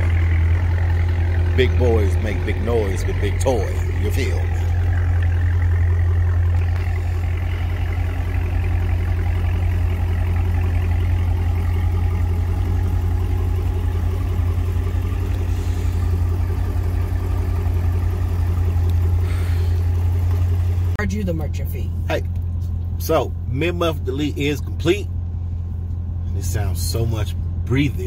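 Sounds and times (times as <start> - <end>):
car engine idling: 0.0 - 28.0
deep exhaust note: 0.0 - 28.0.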